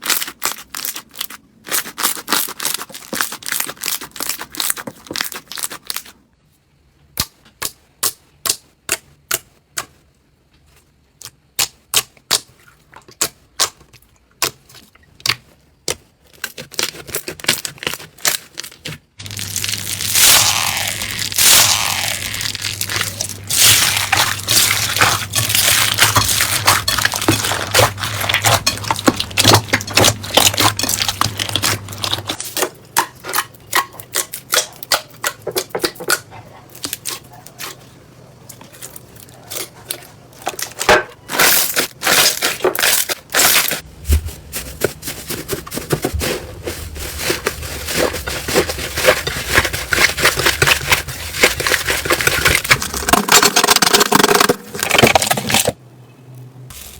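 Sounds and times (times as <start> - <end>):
slime squishing and crackling: 0.0 - 6.1, 11.2 - 36.1, 36.7 - 55.8.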